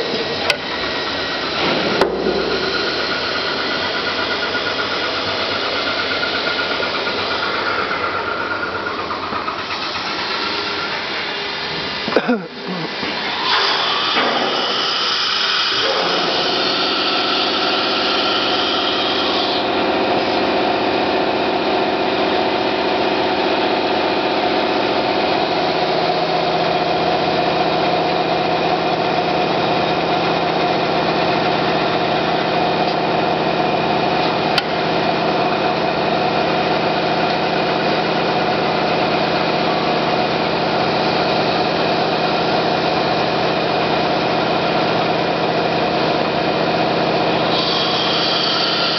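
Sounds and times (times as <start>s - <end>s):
machine whine: 0.0s - 48.9s.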